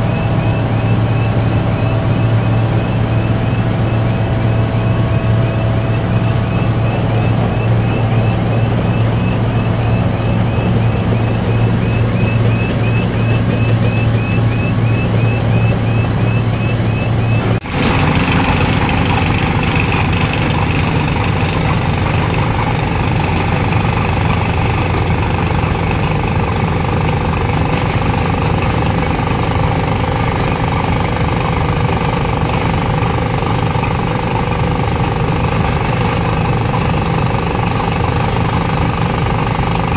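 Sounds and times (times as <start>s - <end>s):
heavy diesel machinery running: 0.0s - 39.9s
rough machine with fast rattle: 0.0s - 39.9s.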